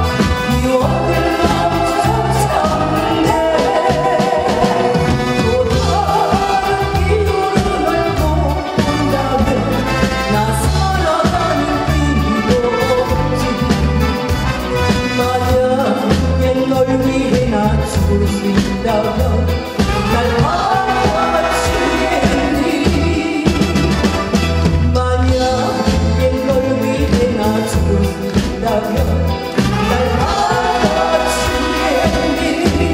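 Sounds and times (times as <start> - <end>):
band with bass and drums: 0.0 - 32.9
woman singing a ballad: 0.4 - 13.7, 15.2 - 23.9, 25.0 - 32.9.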